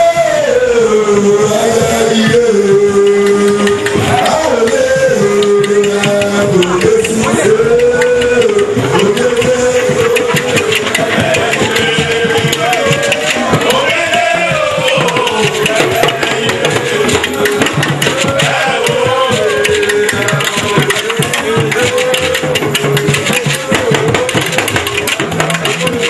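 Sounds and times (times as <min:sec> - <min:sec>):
hand drum strokes: 0:00.0 - 0:26.0.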